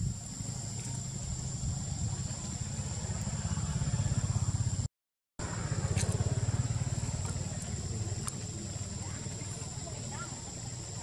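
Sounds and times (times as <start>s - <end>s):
small engine running: 0.2s - 11.0s.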